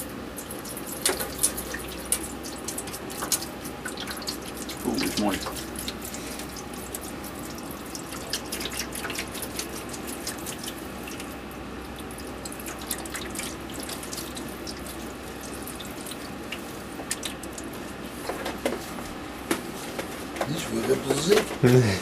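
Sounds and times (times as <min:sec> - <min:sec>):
steady water trickle: 0:00.0 - 0:19.2
liquid dripping in sink: 0:00.4 - 0:18.0.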